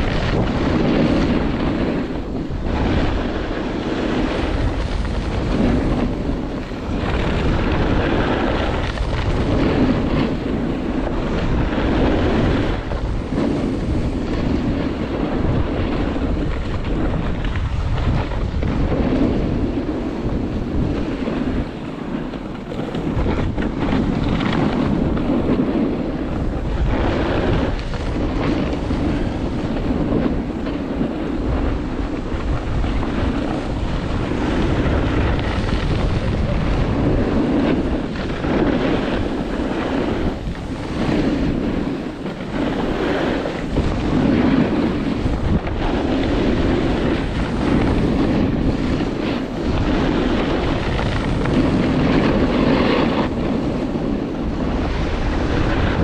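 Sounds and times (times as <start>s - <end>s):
snowboard carving on snow: 0.0s - 56.0s
wind rushing over microphone: 0.0s - 56.0s.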